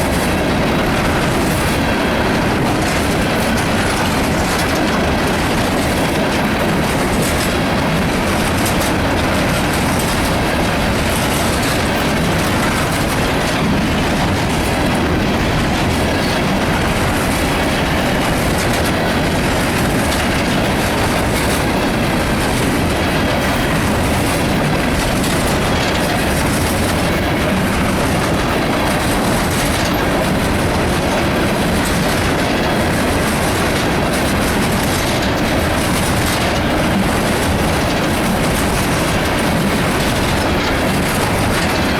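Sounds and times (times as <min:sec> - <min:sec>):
freight train rumbling past: 0:00.0 - 0:41.9
wheels clacking over rail joints: 0:00.0 - 0:41.9.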